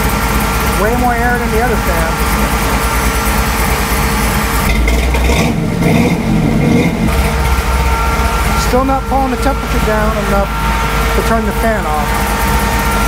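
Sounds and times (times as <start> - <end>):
car engine idling: 0.0 - 13.0
electric radiator fan running: 0.0 - 13.0.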